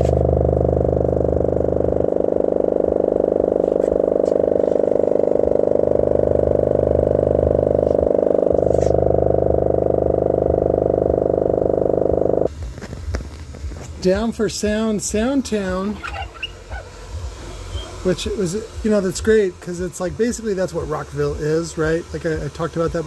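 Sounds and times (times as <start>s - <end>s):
subwoofer low bass drone: 0.0s - 23.0s.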